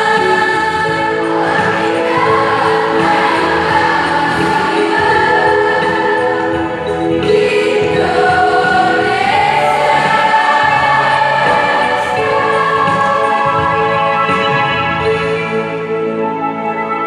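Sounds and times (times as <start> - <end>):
choir singing in parts: 0.0 - 15.7.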